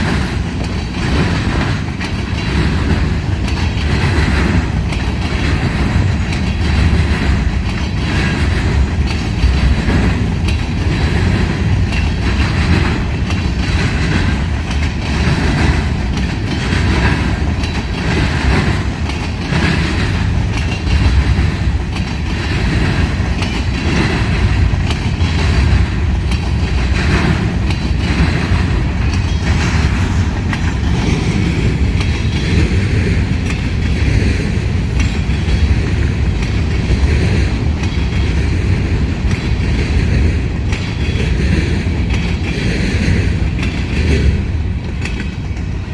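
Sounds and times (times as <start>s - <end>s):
freight train rumbling past: 0.0s - 45.9s
wheels clicking over rail joints: 0.0s - 45.9s.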